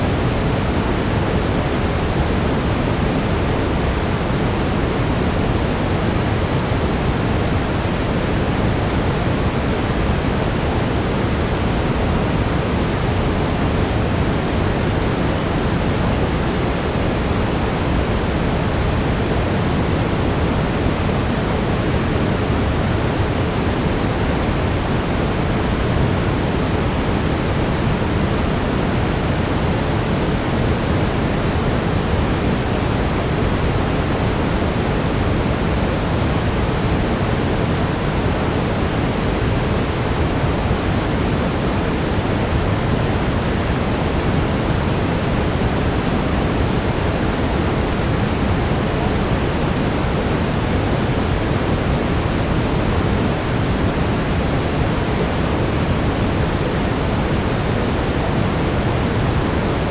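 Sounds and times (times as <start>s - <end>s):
brown noise rushing hiss: 0.0s - 59.9s.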